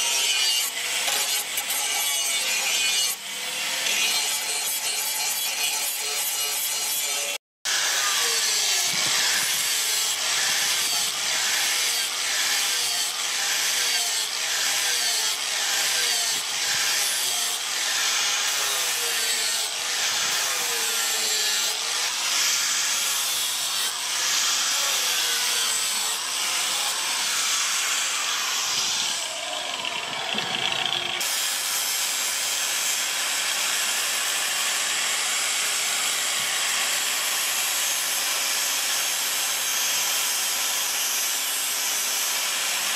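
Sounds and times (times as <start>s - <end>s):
angle grinder grinding steel: 0.0s - 42.9s.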